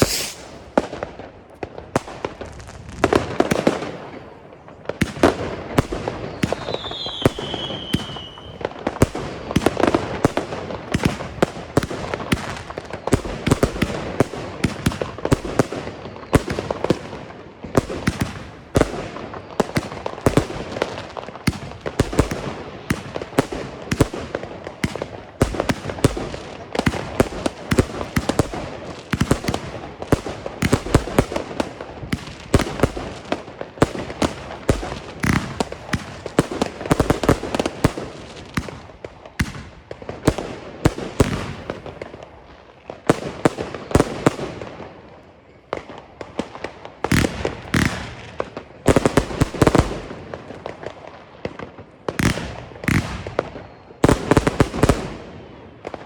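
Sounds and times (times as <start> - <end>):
fireworks launching and bursting: 0.0 - 44.9, 45.8 - 56.0.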